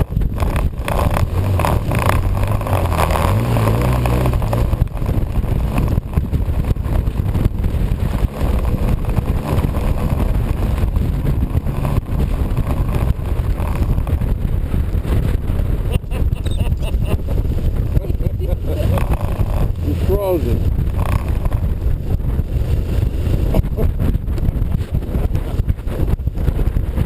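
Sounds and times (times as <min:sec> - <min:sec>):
vehicle engine running: 0:00.0 - 0:27.0
wind noise on microphone: 0:00.0 - 0:27.0.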